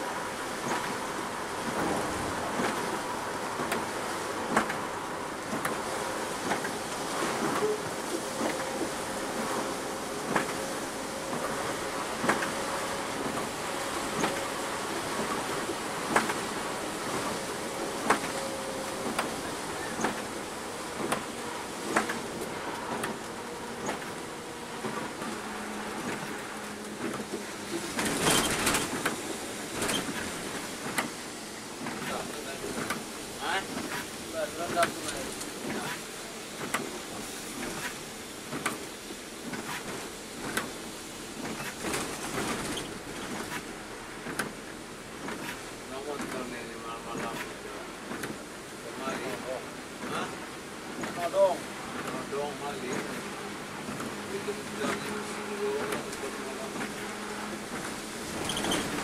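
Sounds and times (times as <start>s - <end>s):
rush of tyre rain and engine noise: 0.0s - 59.0s.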